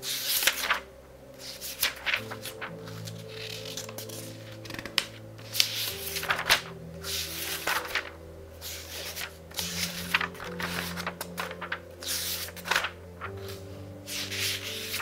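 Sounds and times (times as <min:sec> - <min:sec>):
book pages rustling: 0:00.0 - 0:15.0
soft music with low notes: 0:00.0 - 0:15.0.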